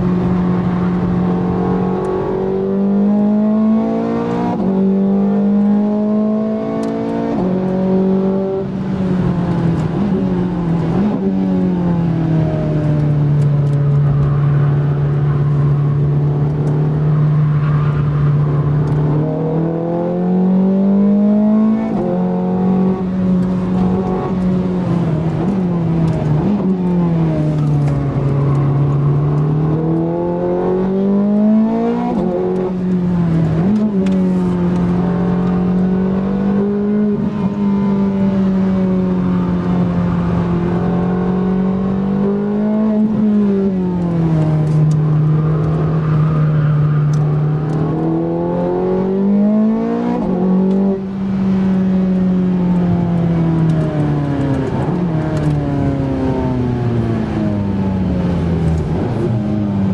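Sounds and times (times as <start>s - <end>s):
car engine revving at racing speed: 0.0s - 59.9s.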